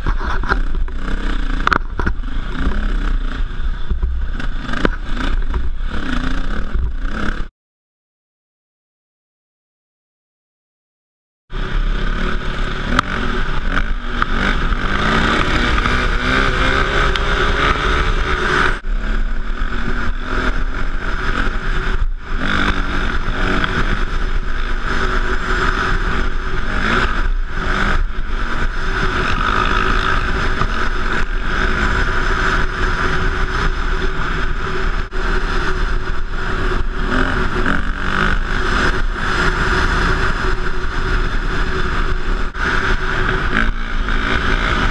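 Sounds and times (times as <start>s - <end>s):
motorcycle engine revving: 0.0s - 7.5s, 11.5s - 44.9s.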